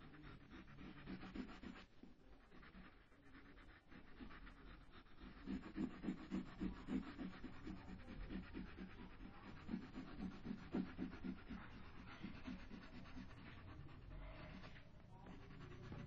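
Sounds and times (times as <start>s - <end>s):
crayon rubbing on paper: 0.0s - 16.0s.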